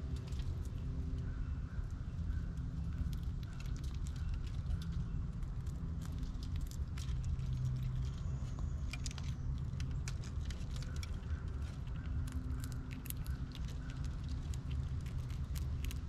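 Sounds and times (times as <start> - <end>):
steady low hum: 0.0 - 16.0
squirrel cracking seeds: 2.5 - 16.0.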